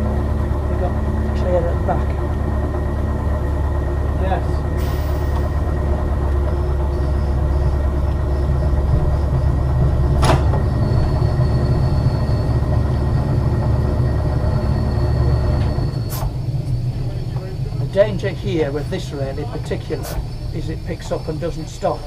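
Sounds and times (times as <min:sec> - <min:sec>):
tram rumbling along track: 0:00.0 - 0:22.0.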